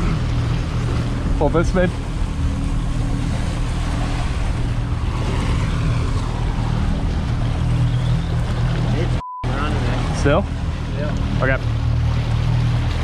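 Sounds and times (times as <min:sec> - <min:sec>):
outboard motor running: 0:00.0 - 0:13.0
wind and water rushing: 0:00.0 - 0:13.0.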